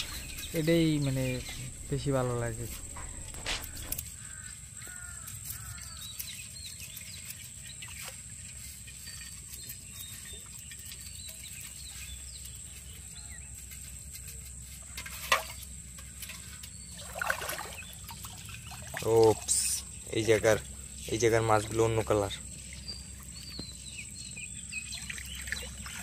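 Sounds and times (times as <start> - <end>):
prawns and fish rustling: 0.0 - 26.0.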